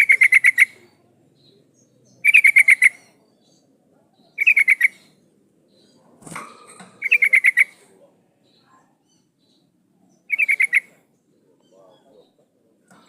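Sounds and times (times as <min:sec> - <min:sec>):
bird chattering calls: 0:00.0 - 0:13.0
rough low bird call: 0:00.0 - 0:13.0.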